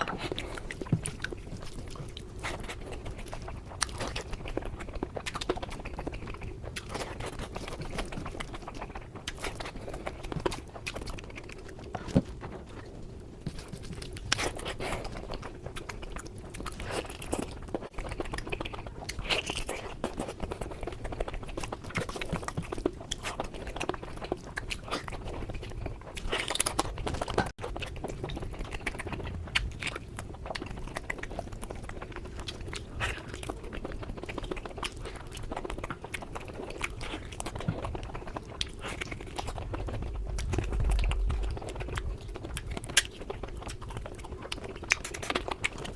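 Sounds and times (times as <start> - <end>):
person chewing and crunching food: 0.0 - 45.9.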